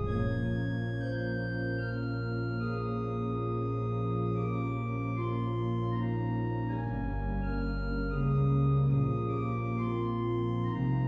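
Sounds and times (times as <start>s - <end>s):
church organ playing a hymn: 0.0s - 11.0s.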